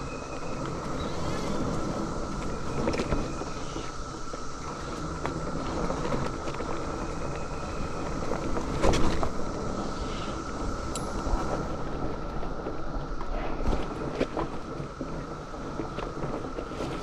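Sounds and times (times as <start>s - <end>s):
bike tyres rumbling on dirt: 0.0s - 17.0s
cicadas droning: 0.0s - 17.0s
wind on microphone: 0.0s - 17.0s.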